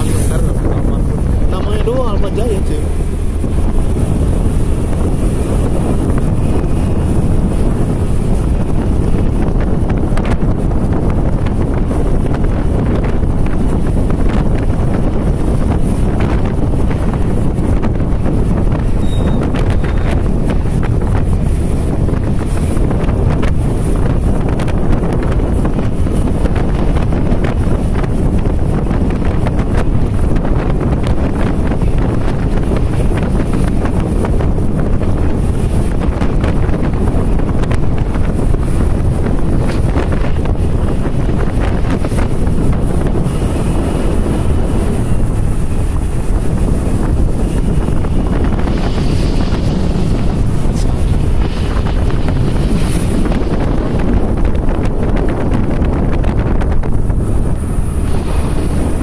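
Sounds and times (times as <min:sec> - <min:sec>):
road and vehicle noise: 0:00.0 - 0:59.0
wind buffeting microphone: 0:00.0 - 0:59.0.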